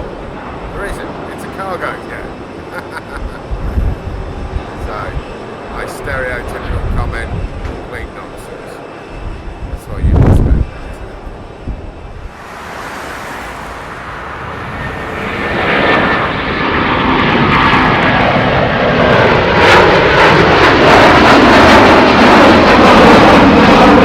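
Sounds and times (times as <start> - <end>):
aircraft jet engines passing: 0.0 - 24.0.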